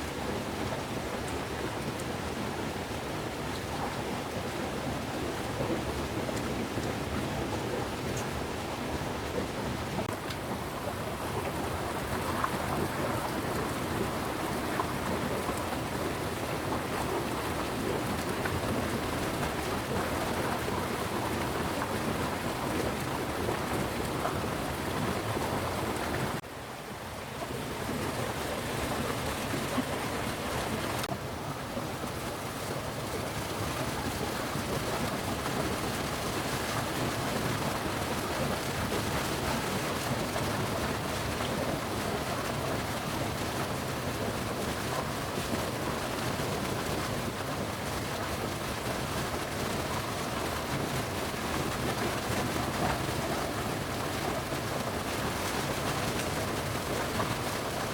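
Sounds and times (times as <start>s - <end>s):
steady rain falling: 0.0s - 26.5s, 27.2s - 57.9s.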